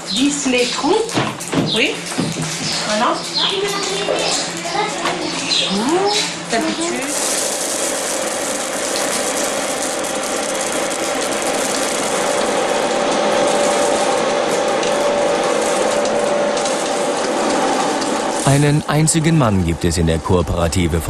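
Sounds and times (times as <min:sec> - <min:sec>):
machine whine: 0:01.5 - 0:21.0.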